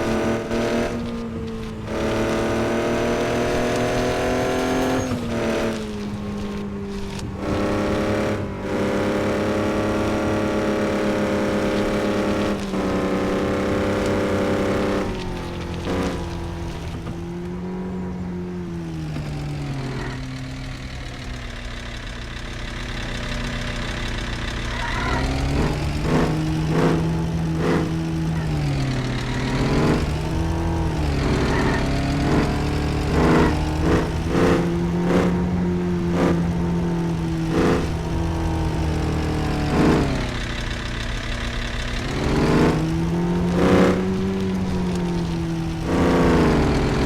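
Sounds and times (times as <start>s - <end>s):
vehicle engine revving: 0.0s - 47.0s.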